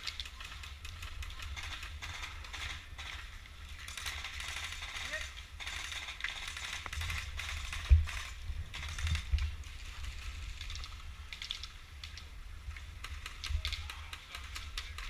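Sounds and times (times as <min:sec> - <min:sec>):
gear clicks and rattles: 0:00.0 - 0:15.0.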